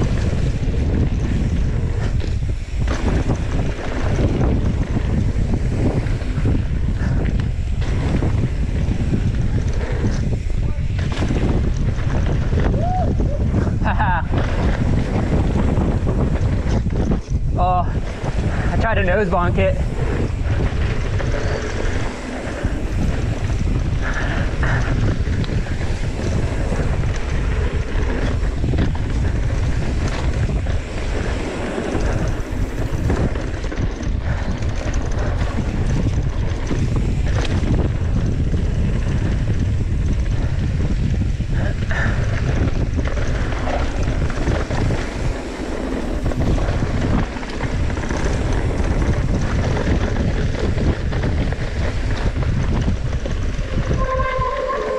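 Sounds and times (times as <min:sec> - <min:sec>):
bike knocks and rattles: 0:00.0 - 0:54.4
tyres rolling on gravel: 0:00.0 - 0:54.9
wind buffeting microphone: 0:00.0 - 0:54.9.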